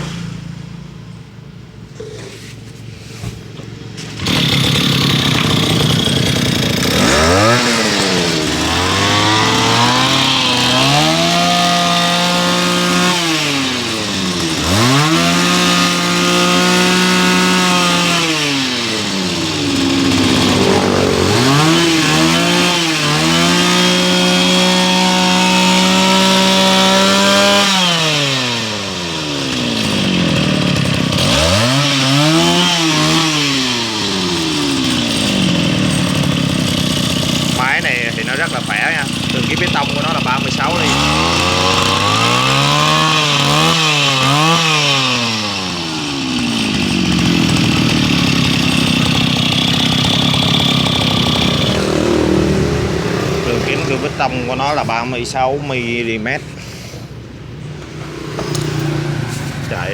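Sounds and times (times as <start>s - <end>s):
brush cutter engine revving: 1.9s - 2.5s, 3.4s - 59.9s.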